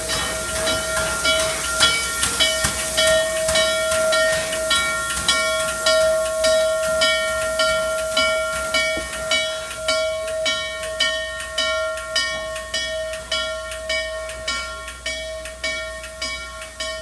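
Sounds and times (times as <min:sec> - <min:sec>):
steam locomotive hissing puffs: 0:00.0 - 0:17.0.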